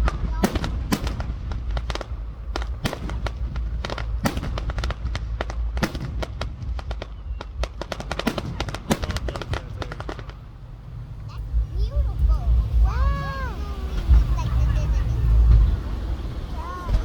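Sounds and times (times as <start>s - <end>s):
fireworks cracks and bangs: 0.0s - 17.0s
low rumble: 0.0s - 17.0s.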